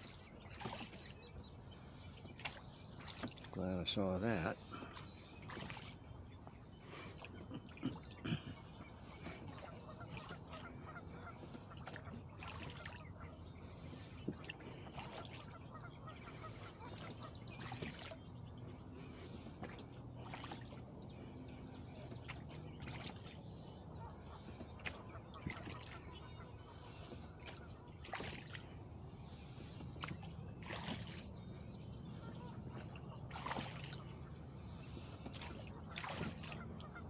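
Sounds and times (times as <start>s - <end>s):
oars splashing in water: 0.0s - 37.0s.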